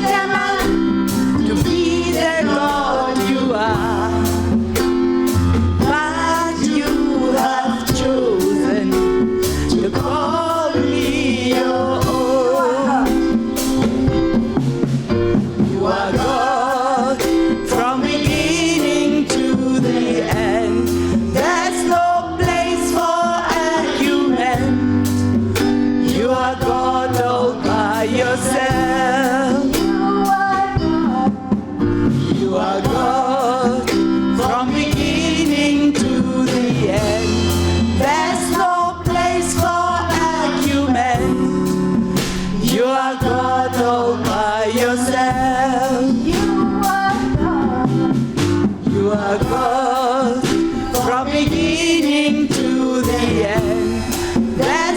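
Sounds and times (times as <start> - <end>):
band with bass and drums: 0.0 - 54.9
voices singing with vibrato: 0.0 - 54.9.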